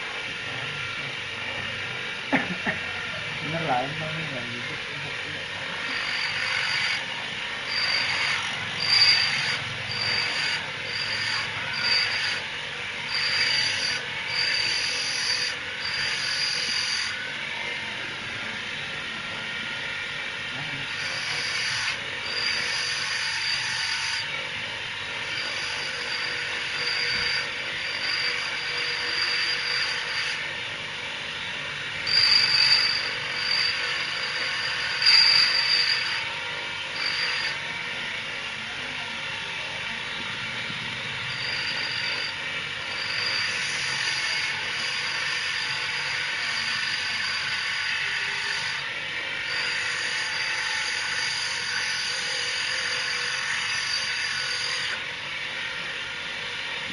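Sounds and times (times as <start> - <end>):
high whine: 0.0 - 48.8
grinding machine whirring hiss: 0.0 - 56.9.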